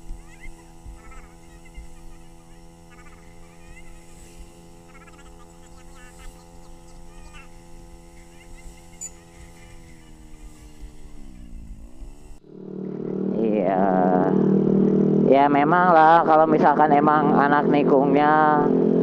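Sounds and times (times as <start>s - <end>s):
scooter engine running: 0.0s - 19.0s.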